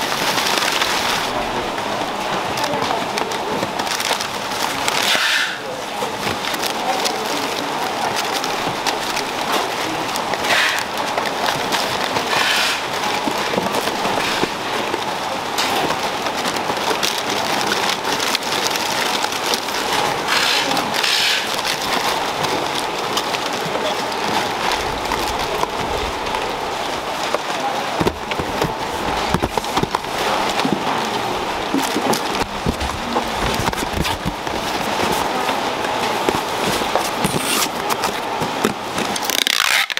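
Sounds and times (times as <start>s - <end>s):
plastic sachets rustling and crinkling: 0.0s - 39.9s.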